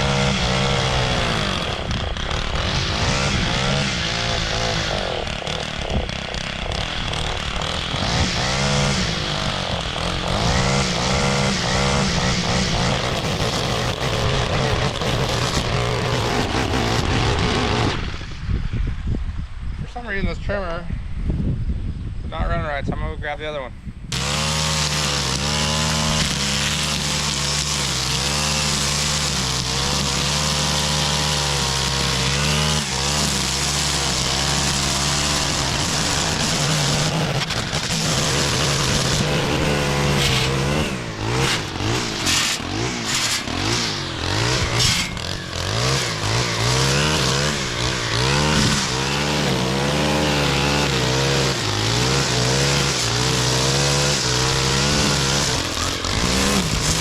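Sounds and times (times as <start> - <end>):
string trimmer revving: 0.0 - 18.4, 24.1 - 57.0.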